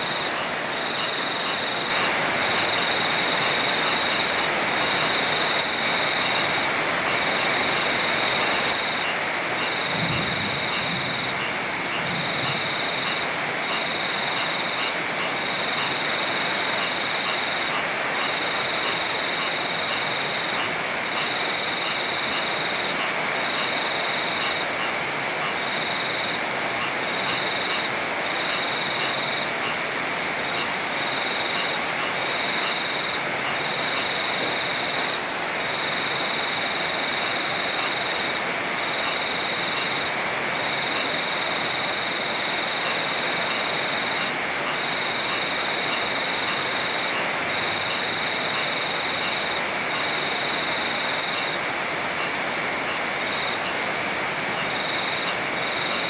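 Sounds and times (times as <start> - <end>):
heavy rain: 0.0 - 56.0
rushing river: 0.0 - 56.0.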